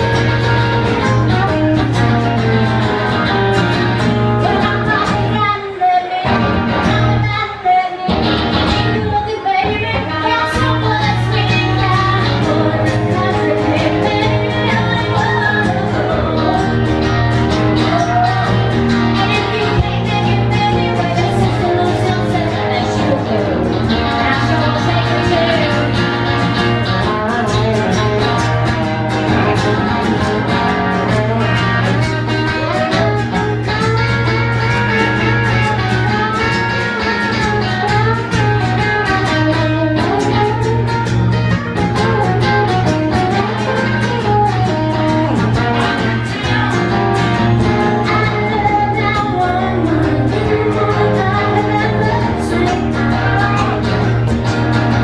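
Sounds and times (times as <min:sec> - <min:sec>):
second guitar playing: 0:00.0 - 0:55.0
strummed acoustic guitar: 0:00.0 - 0:55.0
woman singing: 0:03.8 - 0:54.9.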